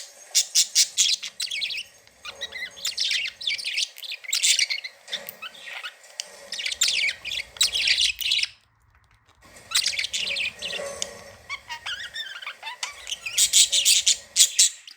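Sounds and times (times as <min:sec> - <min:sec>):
budgerigars chirping: 0:00.0 - 0:08.7, 0:09.4 - 0:14.9.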